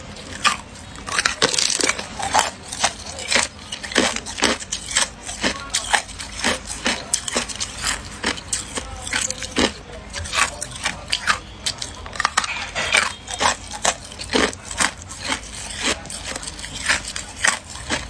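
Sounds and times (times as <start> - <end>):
person chewing ice: 0.0 - 18.0.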